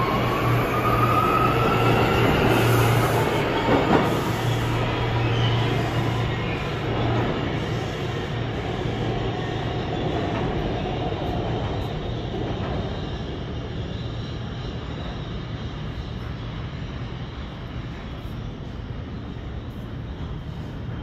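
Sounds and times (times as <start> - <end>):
subway train running: 0.0 - 21.0.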